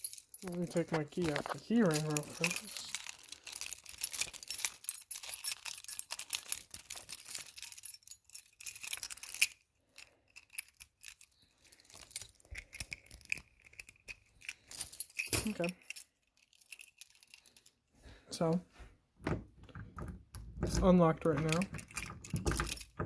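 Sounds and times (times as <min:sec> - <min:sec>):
keys jingling: 0:00.0 - 0:17.8, 0:20.6 - 0:23.0.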